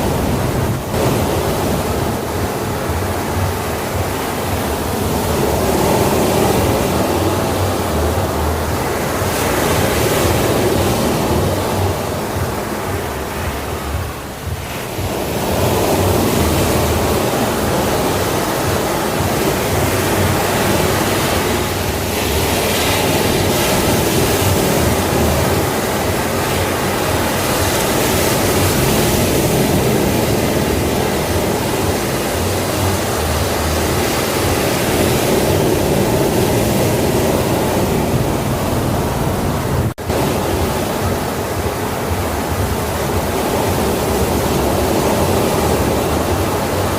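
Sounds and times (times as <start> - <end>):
sea waves and surf: 0.0 - 46.9.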